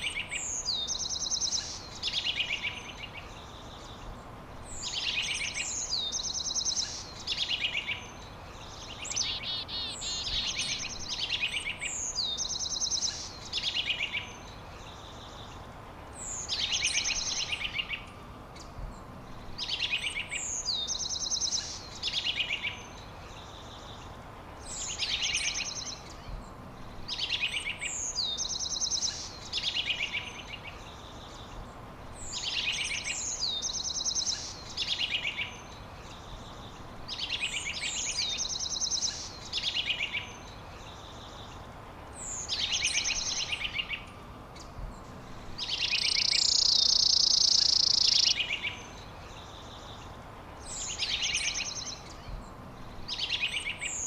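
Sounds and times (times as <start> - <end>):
faint background hiss: 0.0 - 54.0
songbird singing: 0.0 - 54.0.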